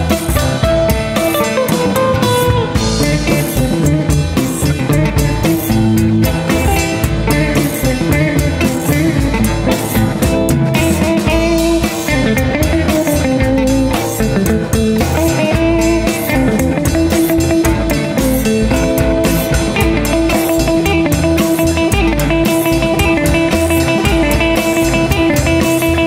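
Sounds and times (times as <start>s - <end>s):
rock music with guitar and drums: 0.0s - 26.0s.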